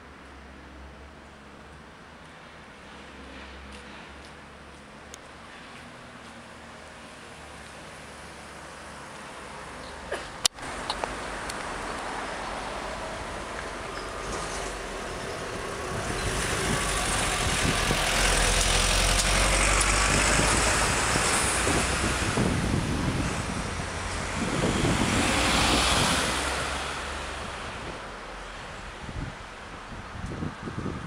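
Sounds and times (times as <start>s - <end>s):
cars driving past: 0.5s - 29.6s.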